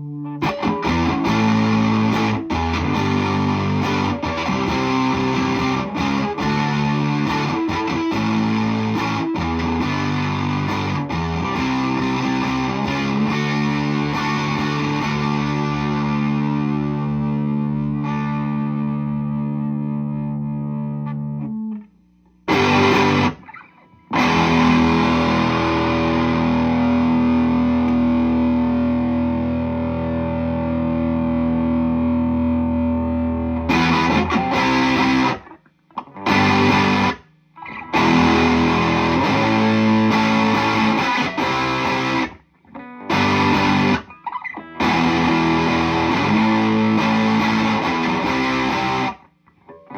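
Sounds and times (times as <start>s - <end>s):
distorted electric guitar chords: 0.0s - 49.9s.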